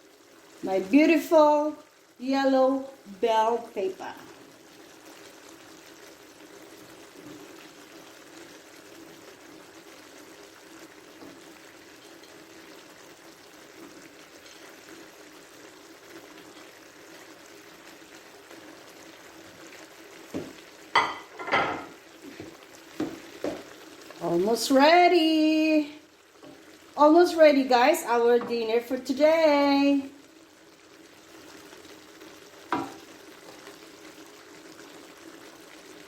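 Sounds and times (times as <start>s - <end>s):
food sizzling and bubbling in a pan: 0.0s - 36.0s.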